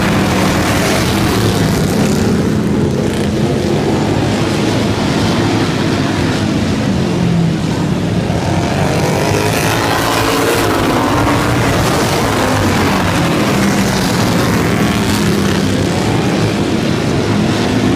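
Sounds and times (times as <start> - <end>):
lawn mower engines revving: 0.0 - 17.9.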